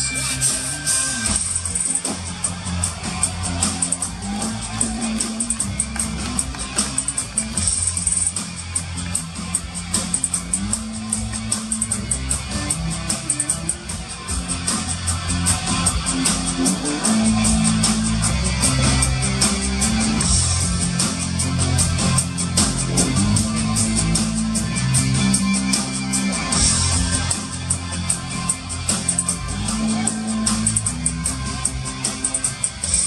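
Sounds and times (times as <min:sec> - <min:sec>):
drum kit steady beat: 0:00.0 - 0:33.0.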